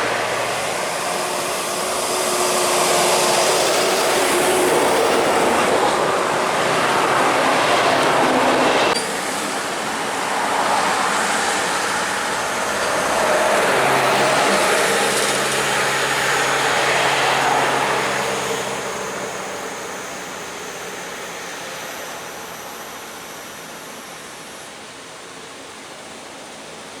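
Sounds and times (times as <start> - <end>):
road and tyre noise: 0.0 - 22.2.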